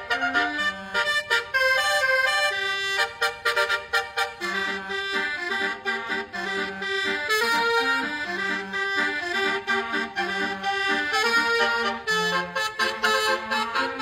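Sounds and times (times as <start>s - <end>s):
multi-tone air horn melody: 0.0s - 14.0s.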